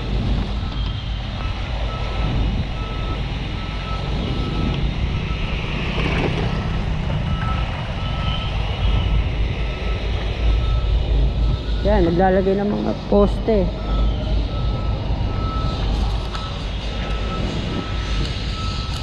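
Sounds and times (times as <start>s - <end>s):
engines and traffic rumble: 0.0s - 19.0s
reversing alarm beeping: 0.0s - 19.0s.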